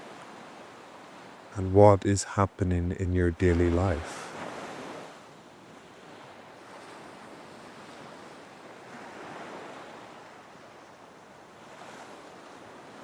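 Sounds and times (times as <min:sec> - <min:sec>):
ocean waves washing on shore: 0:00.0 - 0:13.0.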